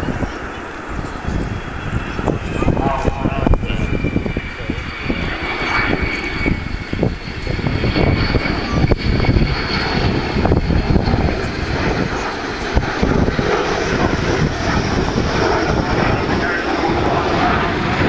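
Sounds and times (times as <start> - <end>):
jet aircraft rumble: 0.0 - 18.0.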